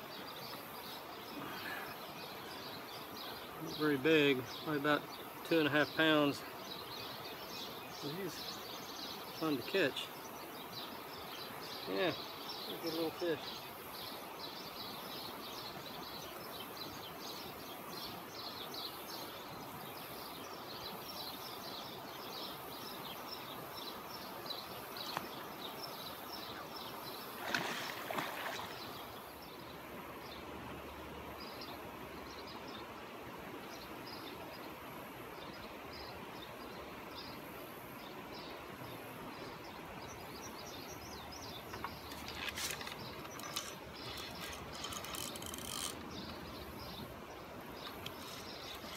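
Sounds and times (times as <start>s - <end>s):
birds chirping: 0.0s - 48.9s
flowing river water: 0.0s - 48.9s.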